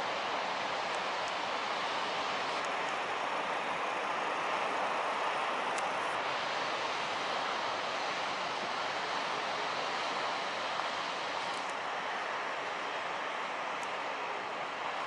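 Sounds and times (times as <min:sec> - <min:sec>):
heavy ocean surf roaring: 0:00.0 - 0:15.0.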